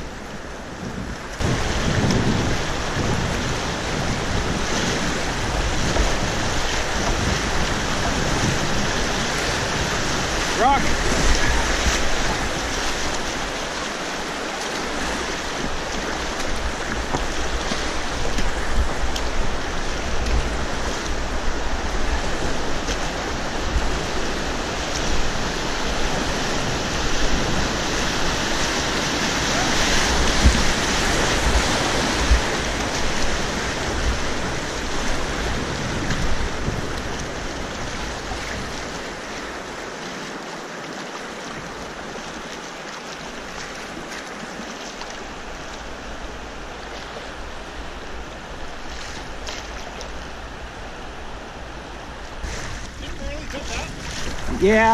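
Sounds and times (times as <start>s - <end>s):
whitewater rushing and splashing: 0.0s - 54.9s.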